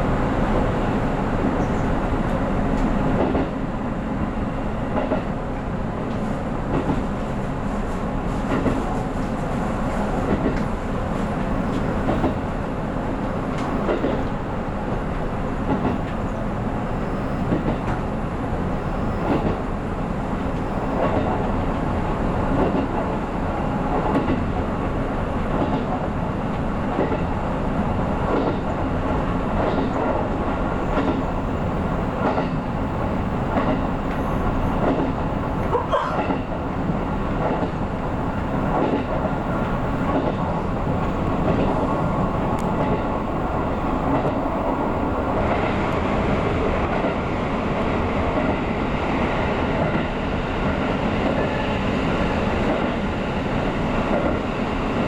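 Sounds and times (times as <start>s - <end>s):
electric train rumble: 0.0s - 55.0s.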